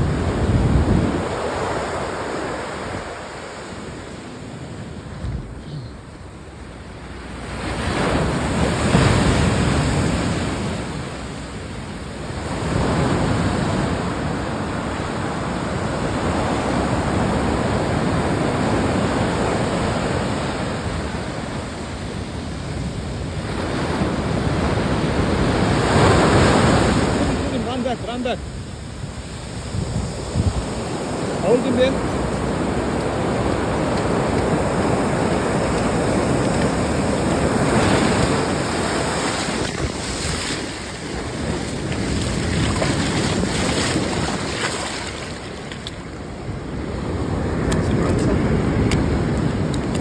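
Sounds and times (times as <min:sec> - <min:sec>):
ocean surf breaking: 0:00.0 - 0:50.0
wind buffeting microphone: 0:00.0 - 0:50.0.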